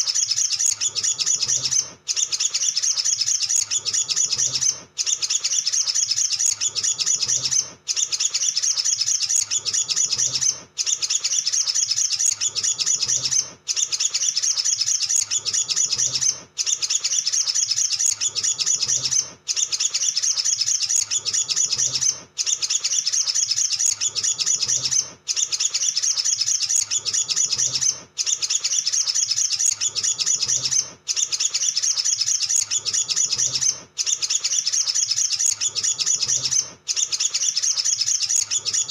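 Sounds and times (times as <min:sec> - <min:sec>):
bird singing chittering trill: 0:00.0 - 0:38.9.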